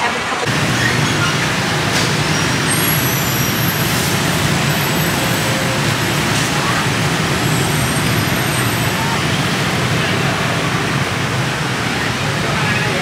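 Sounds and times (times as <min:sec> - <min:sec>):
engine and tyre rumble: 0:00.4 - 0:13.0.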